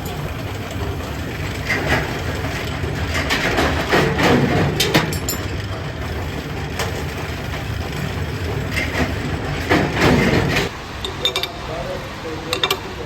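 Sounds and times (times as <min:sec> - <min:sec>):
factory machinery rumble: 0:00.0 - 0:13.0.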